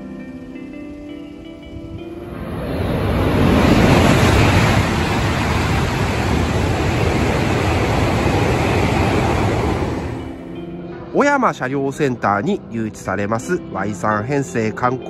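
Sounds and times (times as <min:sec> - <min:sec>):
high-speed train rushing past: 0:00.0 - 0:12.3.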